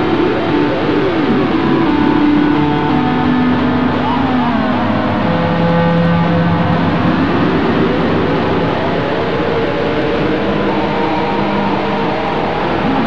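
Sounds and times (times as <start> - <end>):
noisy electronic tones: 0.0 - 13.0.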